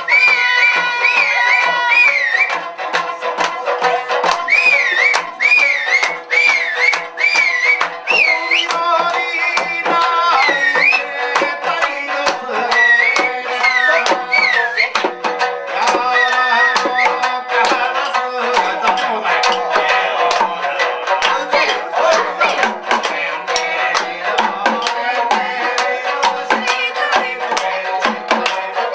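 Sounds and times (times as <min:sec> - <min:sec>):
quick percussive beat: 0:00.0 - 0:28.9.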